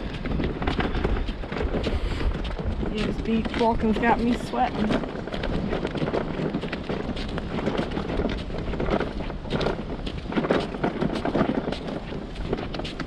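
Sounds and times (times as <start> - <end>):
footsteps crunching on sand and shell: 0.0 - 13.0
wind buffeting microphone: 0.0 - 13.0.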